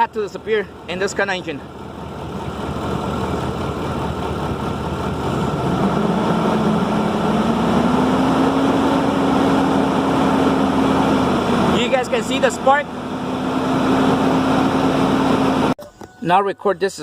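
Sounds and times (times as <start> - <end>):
engine misfiring: 0.0 - 15.8
truck engine revving up: 0.0 - 15.8.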